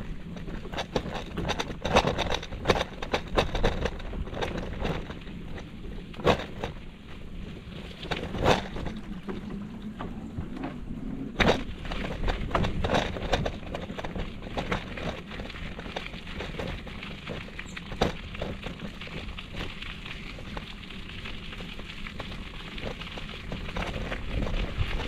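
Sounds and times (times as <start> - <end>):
bicycle rattling: 0.0 - 25.0.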